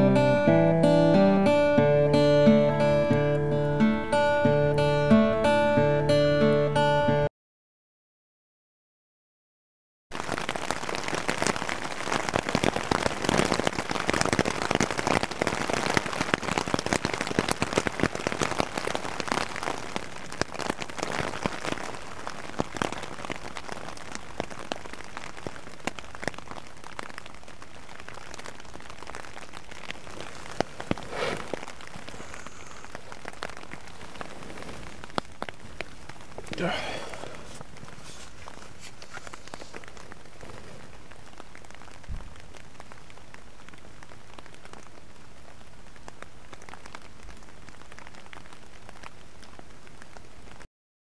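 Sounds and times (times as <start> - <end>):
rain falling: 0.0 - 5.9, 10.1 - 50.7.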